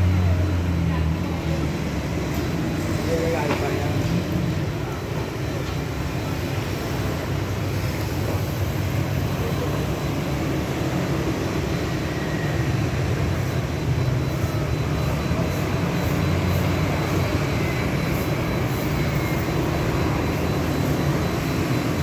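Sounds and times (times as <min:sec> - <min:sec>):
heavy machinery engine rumbling: 0:00.0 - 0:22.0.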